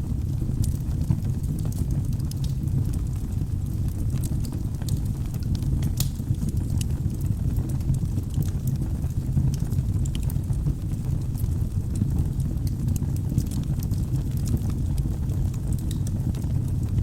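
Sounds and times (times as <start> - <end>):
fire flames rumbling: 0.0 - 17.0
logs crackling and popping: 0.1 - 17.0.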